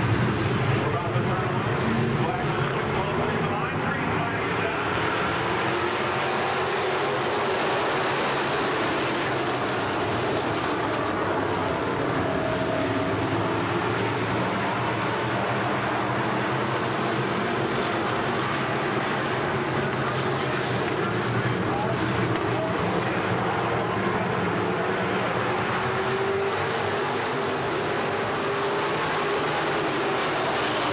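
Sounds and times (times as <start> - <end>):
race car engines droning: 0.0 - 30.9.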